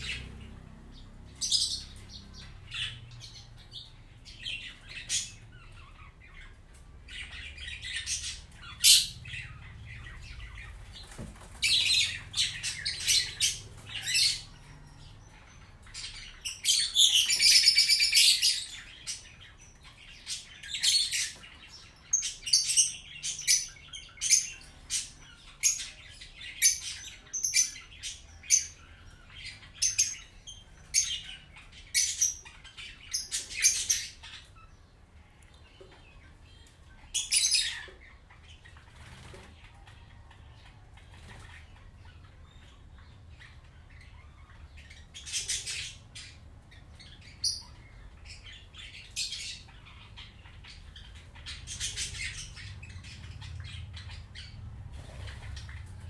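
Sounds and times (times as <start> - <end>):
birds chirping and squawking: 0.0 - 56.0.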